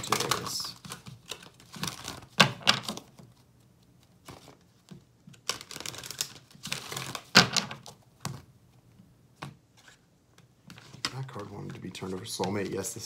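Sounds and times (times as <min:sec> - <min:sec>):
cards being shuffled: 0:00.0 - 0:08.5, 0:09.4 - 0:12.9.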